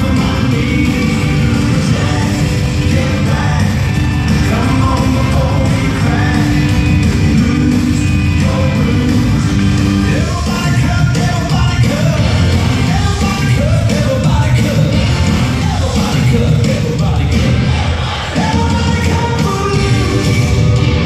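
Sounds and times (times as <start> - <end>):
song with singing over band: 0.0 - 21.0.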